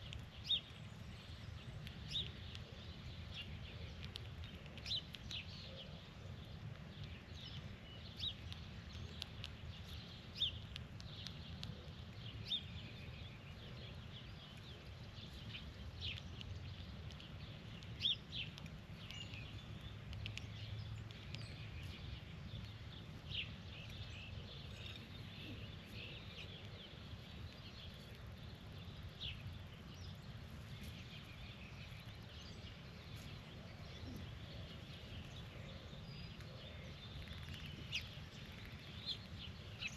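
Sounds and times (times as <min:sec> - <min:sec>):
birds chirping: 0:00.0 - 0:39.9
low outdoor rumble: 0:00.0 - 0:39.9.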